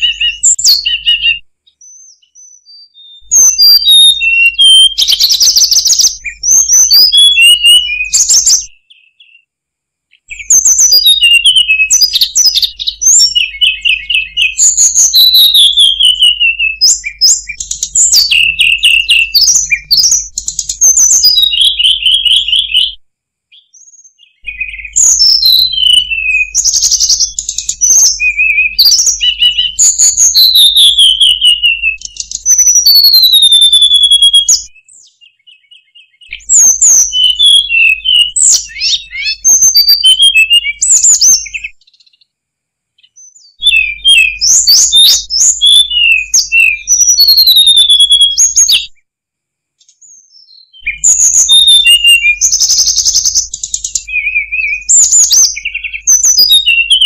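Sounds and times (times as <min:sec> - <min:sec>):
bird singing whistles and trills: 0:00.0 - 0:09.5, 0:10.1 - 0:42.3, 0:43.0 - 0:49.0, 0:49.8 - 0:57.0.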